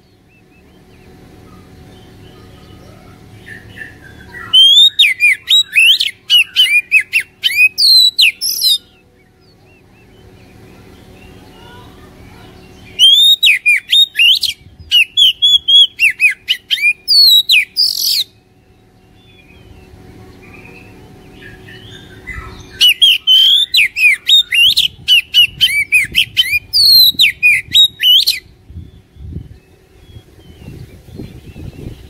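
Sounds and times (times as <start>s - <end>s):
bird song of chirps and whistles: 0.0s - 32.0s.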